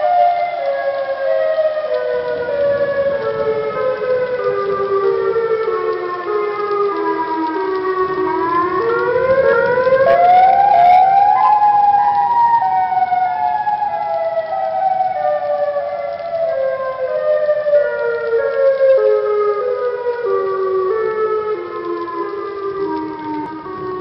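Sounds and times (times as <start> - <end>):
tornado warning siren wailing: 0.0 - 24.0.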